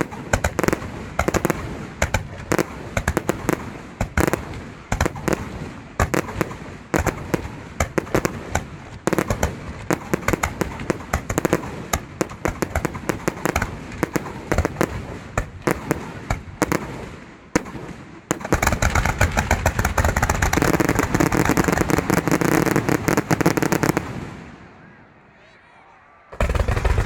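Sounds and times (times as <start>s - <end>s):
fireworks bangs and crackle: 0.0s - 24.7s, 26.3s - 27.0s.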